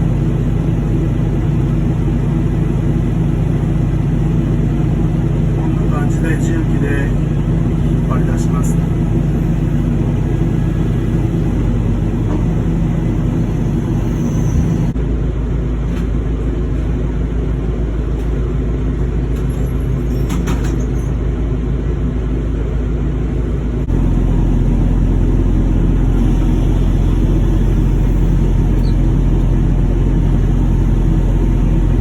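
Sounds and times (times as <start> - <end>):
heavy machine engine rumbling: 0.0 - 32.0.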